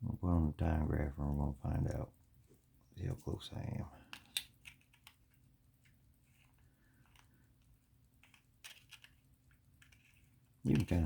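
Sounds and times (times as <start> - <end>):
faint clicks and taps: 1.1 - 11.0.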